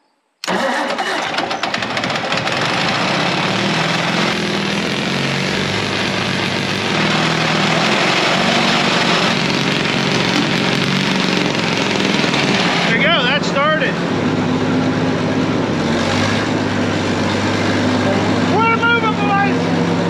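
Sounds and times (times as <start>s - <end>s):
crawler tractor engine running: 0.4s - 20.0s.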